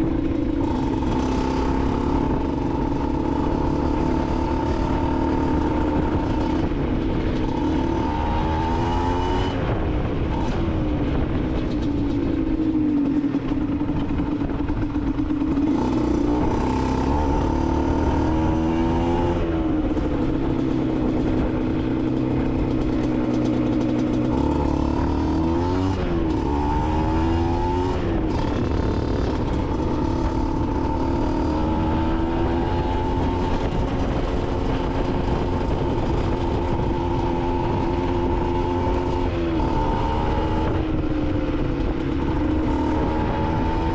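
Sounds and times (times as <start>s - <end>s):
two-stroke motorcycle engine revving: 0.0s - 43.9s.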